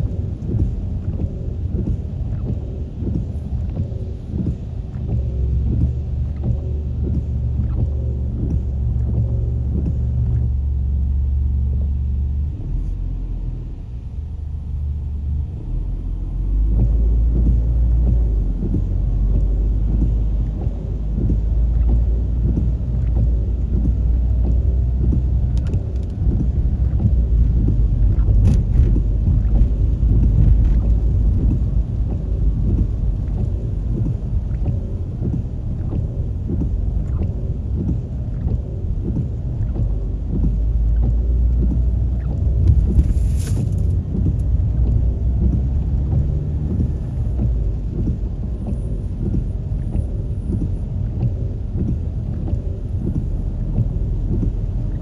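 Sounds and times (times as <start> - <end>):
low thuds: 0.0 - 55.0
road noise: 0.0 - 55.0
vehicle engine rumble: 0.0 - 55.0.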